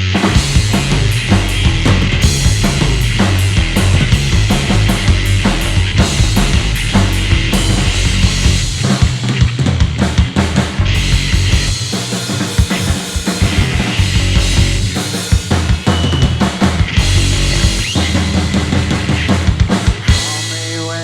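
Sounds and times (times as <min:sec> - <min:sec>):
electric guitar: 0:00.0 - 0:20.7
bass guitar: 0:00.0 - 0:21.0
drum kit: 0:00.0 - 0:21.0.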